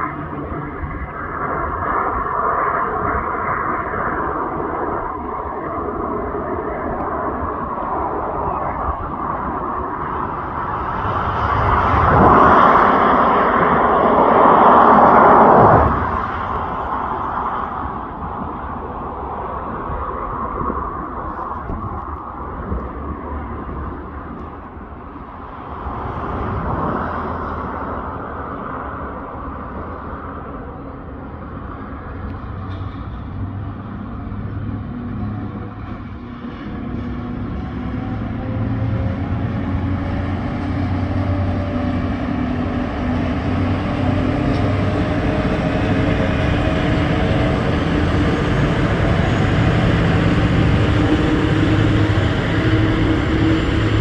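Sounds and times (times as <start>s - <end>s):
diesel locomotive engines droning: 0.0s - 54.0s.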